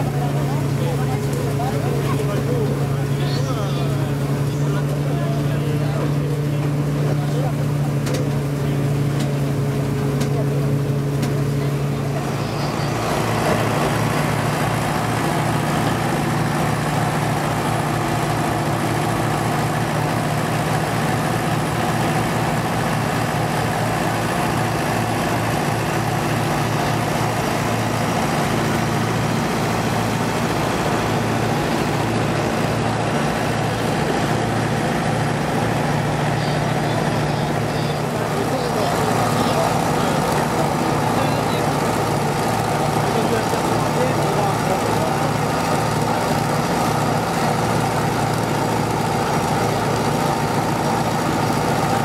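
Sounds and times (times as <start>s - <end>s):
threshing machine rattling: 0.0s - 52.0s
tractor engine running: 0.0s - 52.0s.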